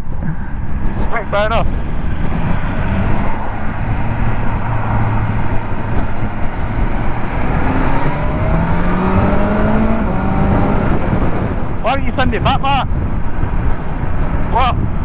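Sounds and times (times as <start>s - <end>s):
motorcycle engine running: 0.0s - 15.0s
wind noise: 0.0s - 15.0s.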